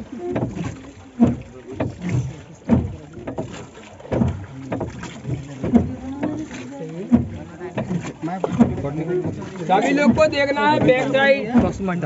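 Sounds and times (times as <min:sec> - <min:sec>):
oars knocking and creaking: 0:00.0 - 0:12.0.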